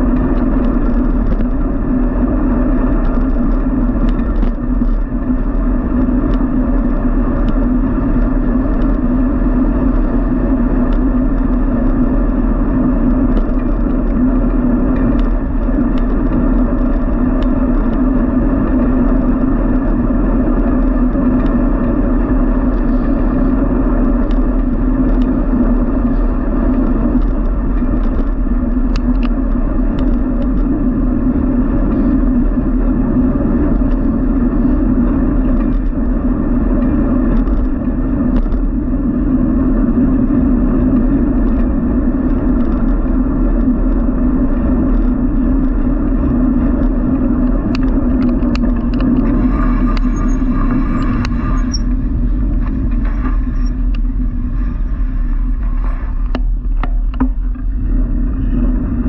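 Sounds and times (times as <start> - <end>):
faint ticks and rattles: 0.0 - 58.7
bicycle road and wind noise: 0.0 - 59.0.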